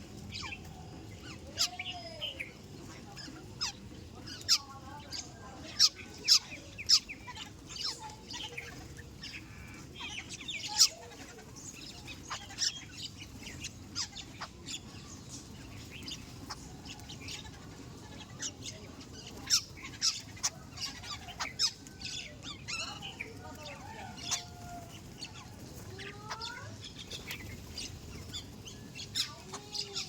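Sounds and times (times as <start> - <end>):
birds chirping and clucking: 0.0 - 30.0.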